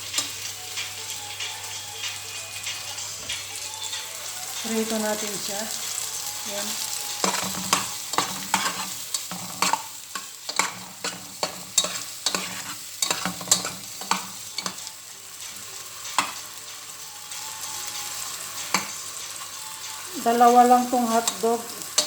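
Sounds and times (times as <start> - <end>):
sausages sizzling in oil: 0.0 - 22.0.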